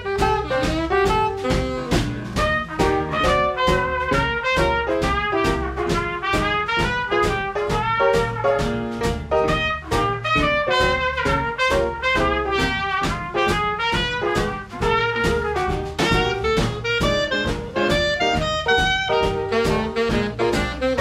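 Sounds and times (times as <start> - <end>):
swing band playing: 0.0 - 21.0.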